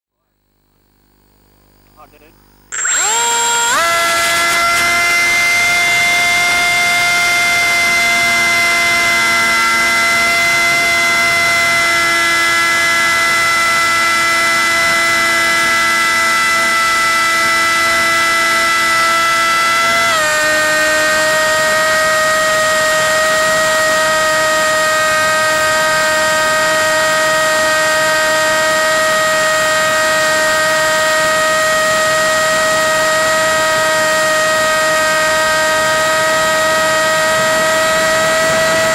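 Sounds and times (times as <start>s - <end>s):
model plane motor whining: 2.7s - 38.9s.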